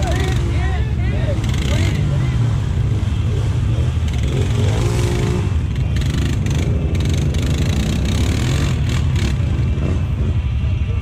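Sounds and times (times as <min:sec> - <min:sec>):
atv engine revving: 0:00.0 - 0:11.0
atv engines rumbling: 0:00.0 - 0:11.0.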